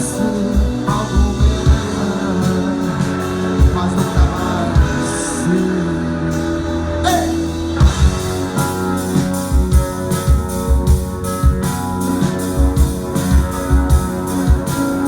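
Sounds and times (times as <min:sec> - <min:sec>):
drum kit beat: 0:00.0 - 0:15.0
electric guitars and bass: 0:00.0 - 0:15.0.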